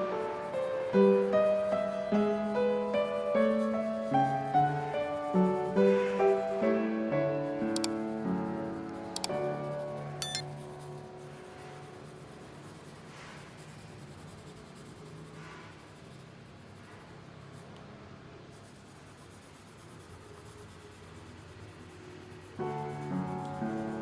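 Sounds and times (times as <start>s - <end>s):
pencil scratching on paper: 0.0s - 6.8s, 7.4s - 17.8s, 18.4s - 24.0s.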